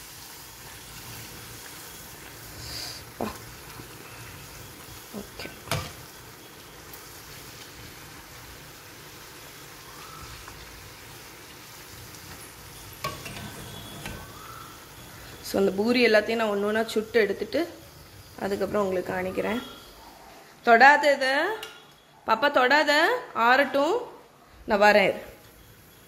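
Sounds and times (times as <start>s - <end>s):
bread deep-frying in oil: 0.0s - 19.9s, 24.8s - 26.0s.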